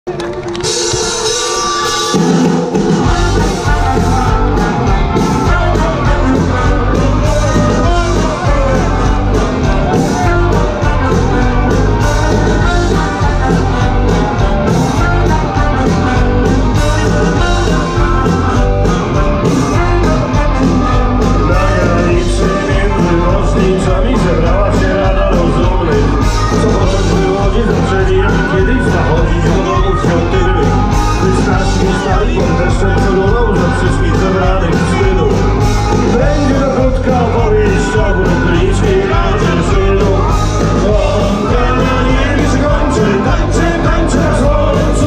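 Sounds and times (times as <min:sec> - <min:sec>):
live rock band playing: 0:00.1 - 0:45.0.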